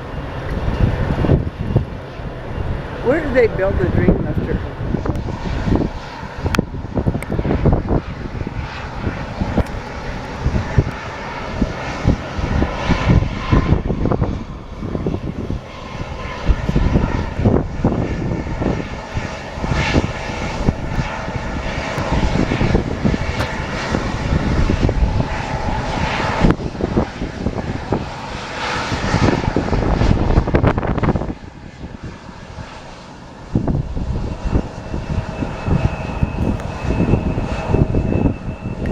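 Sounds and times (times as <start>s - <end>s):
airplane engines running: 0.0s - 38.9s
wind buffeting microphone: 0.0s - 38.9s.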